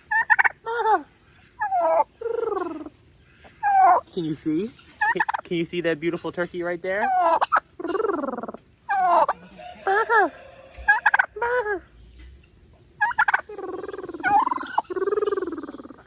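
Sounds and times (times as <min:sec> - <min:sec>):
turkey hen calling: 0:00.0 - 0:05.5, 0:06.9 - 0:12.0, 0:12.6 - 0:16.0.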